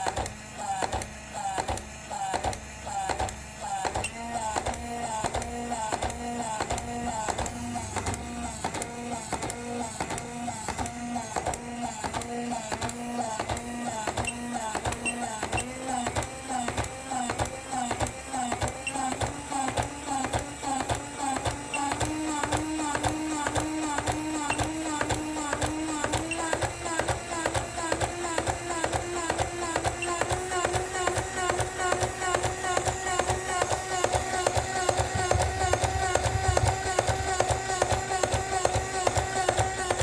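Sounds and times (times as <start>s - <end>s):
high motor whine: 0.3s - 40.0s.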